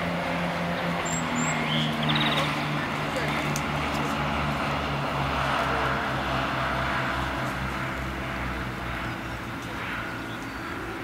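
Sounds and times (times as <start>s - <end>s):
train diesel engines throbbing: 0.0s - 11.0s.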